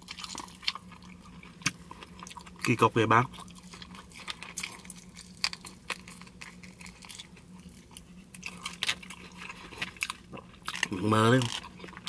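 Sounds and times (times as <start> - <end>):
person chewing meat: 0.0 - 12.0.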